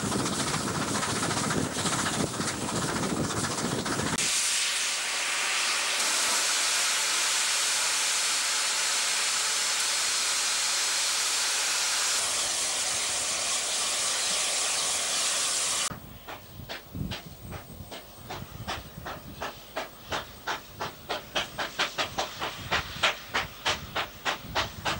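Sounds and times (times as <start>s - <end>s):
steam locomotive venting steam: 0.0s - 24.9s.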